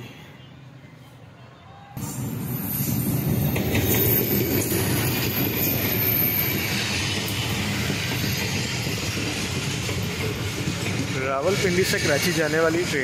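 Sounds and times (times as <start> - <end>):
train wheels rumbling on rails: 2.0 - 13.0.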